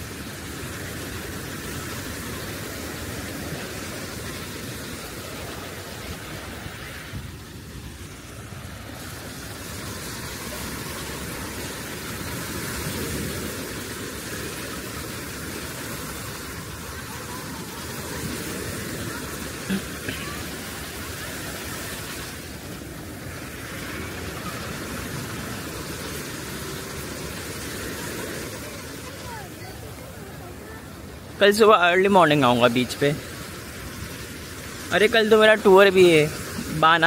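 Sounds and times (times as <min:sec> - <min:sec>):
sea surf: 0:00.0 - 0:37.0
wind: 0:00.0 - 0:37.0.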